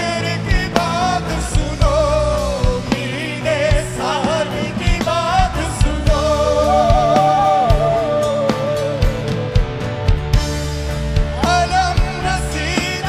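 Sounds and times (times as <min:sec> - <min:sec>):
male vocal singing: 0:00.0 - 0:09.3, 0:11.4 - 0:13.0
bass: 0:00.0 - 0:13.0
electric guitar: 0:00.0 - 0:13.0
steady drum beat: 0:00.0 - 0:13.0.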